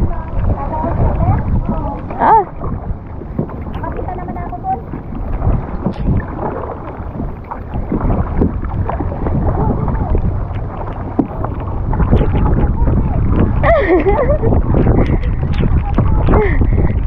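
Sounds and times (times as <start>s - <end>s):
paddle splashing in water: 0.0s - 17.0s
wind rumbling on microphone: 0.0s - 17.0s.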